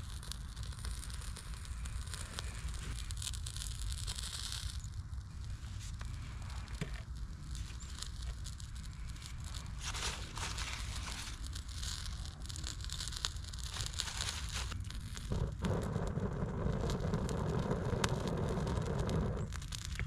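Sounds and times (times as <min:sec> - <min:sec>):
fire hissing: 0:00.0 - 0:20.0
small fire crackling: 0:00.0 - 0:20.0.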